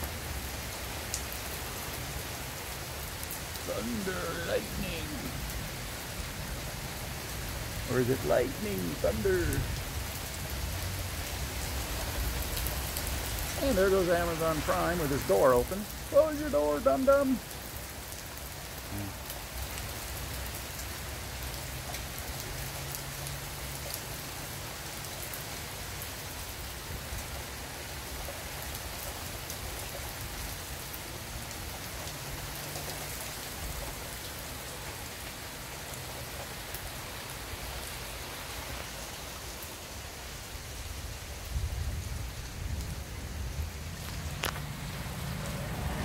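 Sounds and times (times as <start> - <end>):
rain on wet pavement: 0.0 - 46.0.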